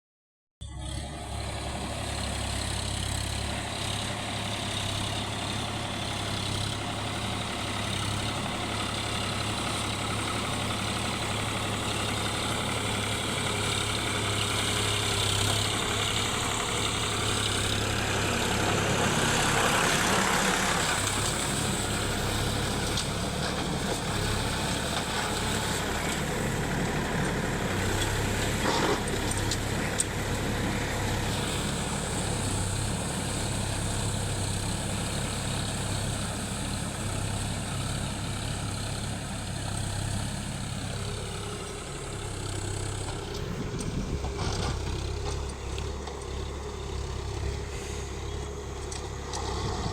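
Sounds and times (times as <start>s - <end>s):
tractor diesel engine running: 0.6s - 49.9s.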